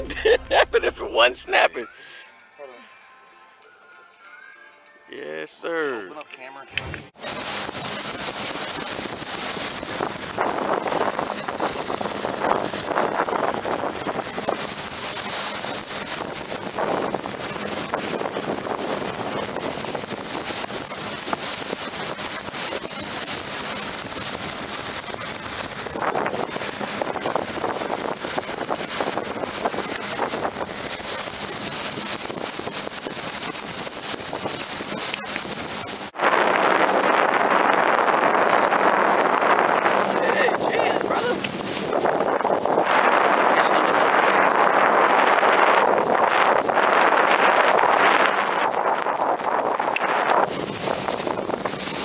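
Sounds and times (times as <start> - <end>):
water rushing along hull: 7.1 - 52.0
wind buffeting microphone: 7.1 - 52.0.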